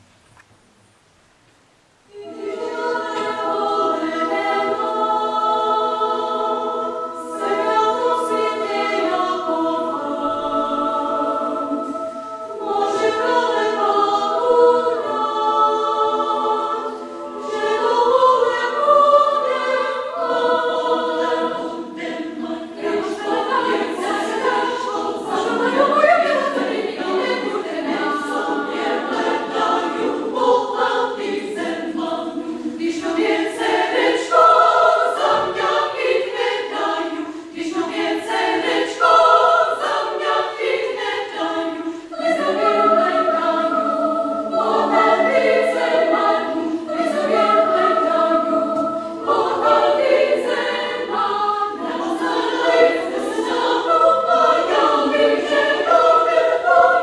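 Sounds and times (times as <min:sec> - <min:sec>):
women's choir singing a cappella: 0:02.1 - 0:57.0.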